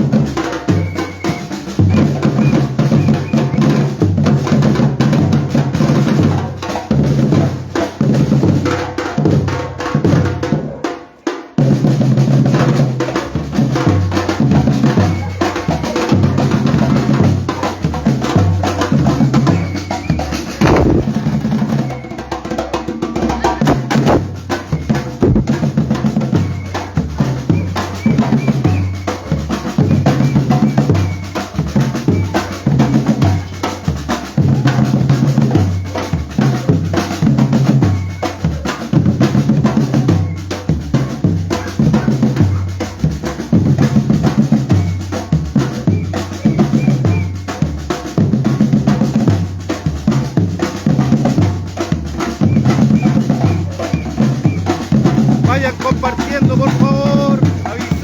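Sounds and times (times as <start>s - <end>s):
drum group playing: 0.0s - 58.0s.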